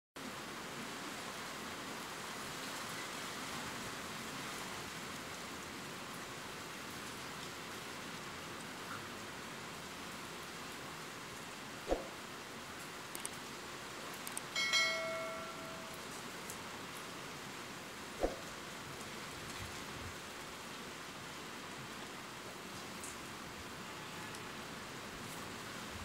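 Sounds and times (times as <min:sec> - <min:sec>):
steady rain falling: 0:00.2 - 0:26.0.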